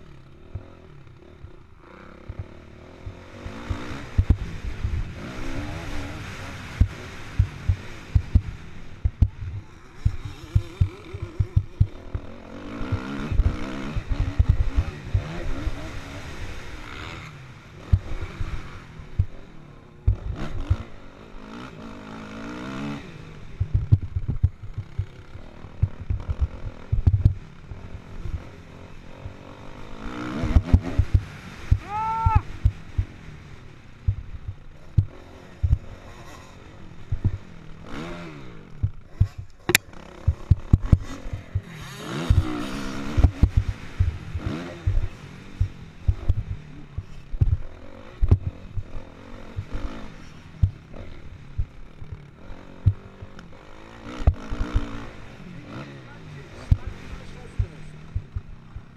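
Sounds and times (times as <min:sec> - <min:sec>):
motocross engine revving: 0:00.0 - 0:58.9.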